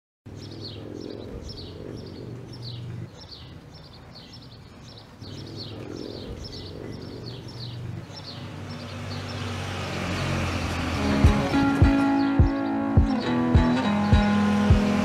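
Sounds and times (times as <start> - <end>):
bird chirping: 0.3 - 15.0.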